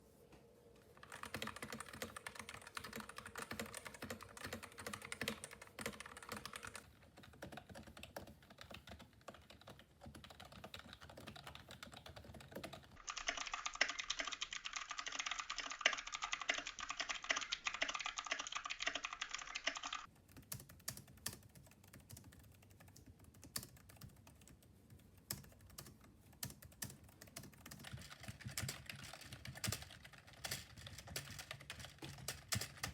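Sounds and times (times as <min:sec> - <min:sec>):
fast typing on keyboards: 0:01.0 - 0:32.9.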